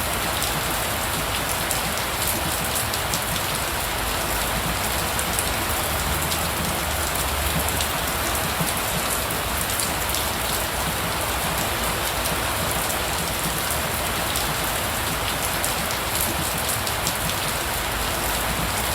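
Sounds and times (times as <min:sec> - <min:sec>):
steady rainfall pattering: 0:00.0 - 0:18.9.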